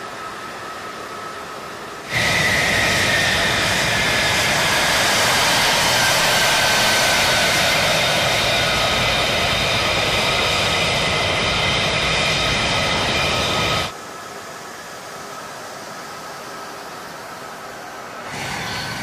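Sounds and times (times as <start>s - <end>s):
jet engine running: 0.0s - 14.0s, 14.6s - 19.0s.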